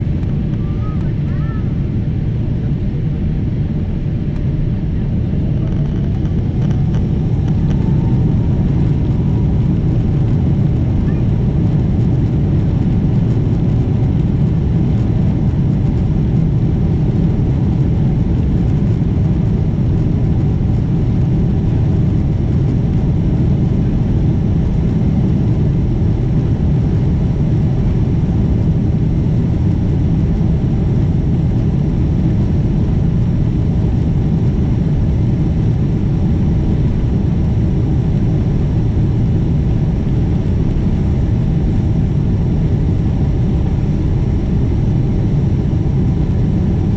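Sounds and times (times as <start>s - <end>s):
airliner engine rumble: 0.0s - 46.9s
faint hum: 0.0s - 46.9s.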